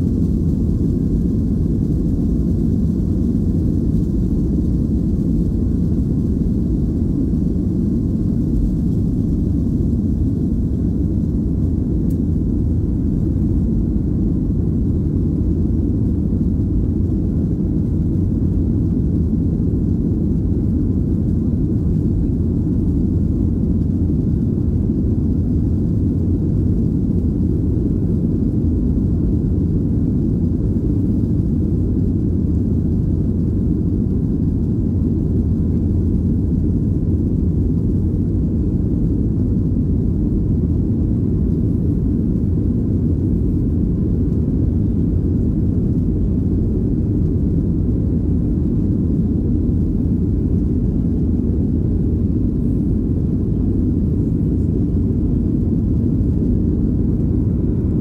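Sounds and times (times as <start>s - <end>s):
jet engines rumbling inside cabin: 0.0s - 58.0s.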